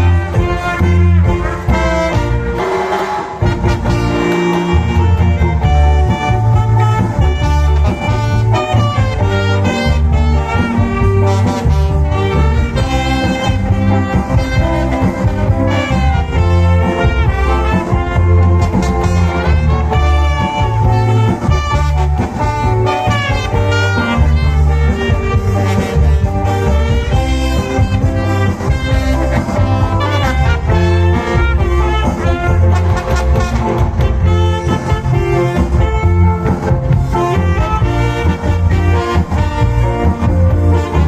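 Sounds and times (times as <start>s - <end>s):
cha-cha dance music: 0.0s - 41.0s
heavy repeating bass beat: 0.0s - 41.0s
horn-like melody: 0.0s - 41.0s.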